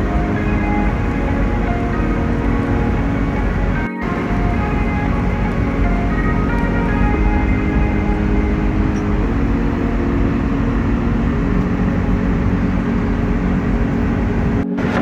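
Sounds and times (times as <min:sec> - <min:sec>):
airplane cabin engine drone: 0:00.0 - 0:15.0
low hum: 0:00.0 - 0:15.0.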